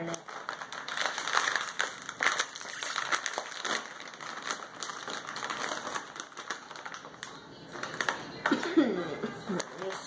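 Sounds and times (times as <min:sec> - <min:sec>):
chip bag crinkling: 0:00.0 - 0:08.6, 0:09.3 - 0:10.0.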